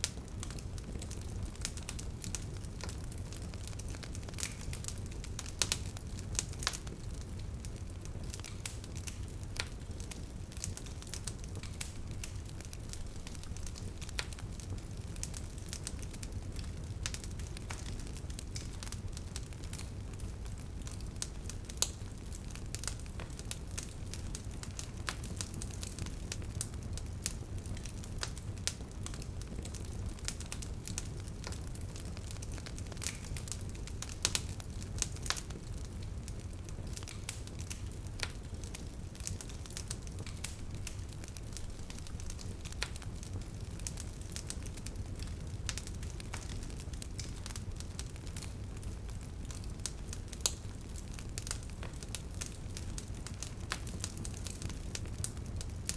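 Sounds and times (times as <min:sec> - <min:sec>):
fire crackling and popping: 0:00.0 - 0:55.9.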